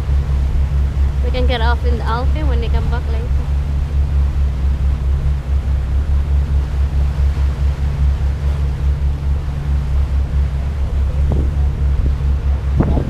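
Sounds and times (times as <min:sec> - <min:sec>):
boat engine droning: 0:00.0 - 0:13.0
wind on microphone: 0:00.0 - 0:13.0.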